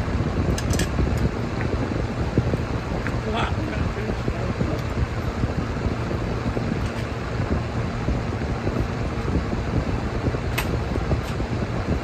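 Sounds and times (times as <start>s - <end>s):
low rumble of background noise: 0.0s - 12.0s.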